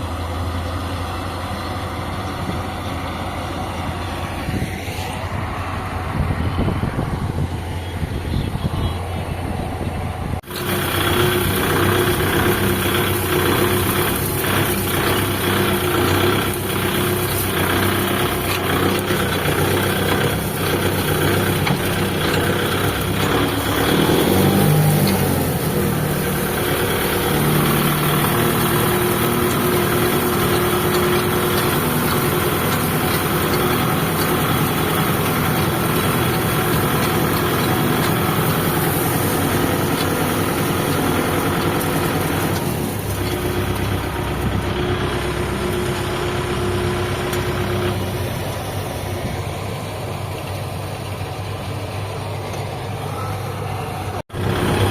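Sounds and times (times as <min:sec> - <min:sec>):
harvesting machinery running: 0:00.0 - 0:54.9
tractor diesel engine: 0:00.0 - 0:54.9.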